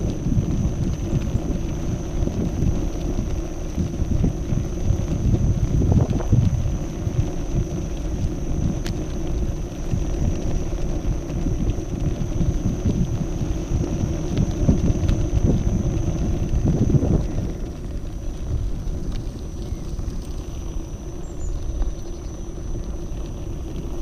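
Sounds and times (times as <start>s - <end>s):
tyre rumbling over cobblestones: 0.0s - 24.0s
wind on microphone: 0.0s - 24.0s.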